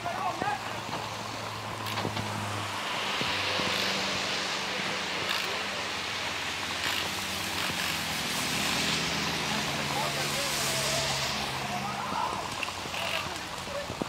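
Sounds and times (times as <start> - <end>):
heavy vehicle engines humming: 0.0 - 14.0
outdoor hiss: 0.0 - 14.0.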